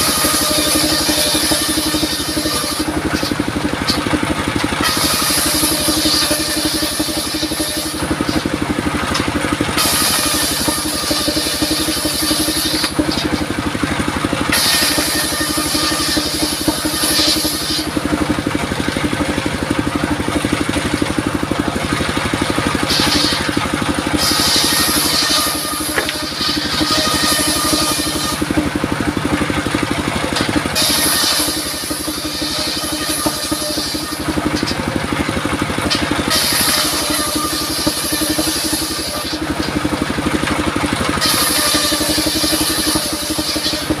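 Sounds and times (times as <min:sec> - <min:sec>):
saw blade cutting wood: 0:00.0 - 0:44.0
sawmill engine drone: 0:00.0 - 0:44.0.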